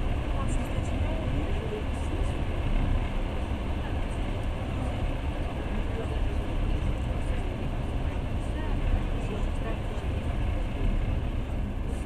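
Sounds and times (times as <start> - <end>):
train low rumble from inside: 0.0 - 12.0
train passing close by: 0.0 - 12.0.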